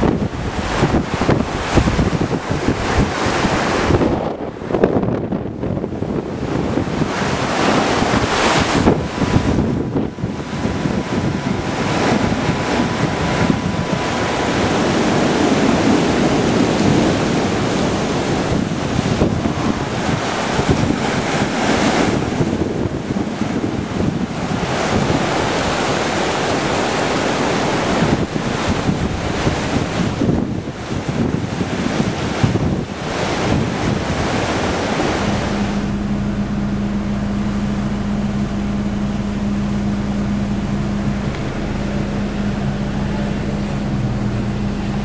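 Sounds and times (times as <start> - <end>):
gusty wind buffeting microphone: 0.0 - 45.0
rough surf breaking: 0.0 - 45.0.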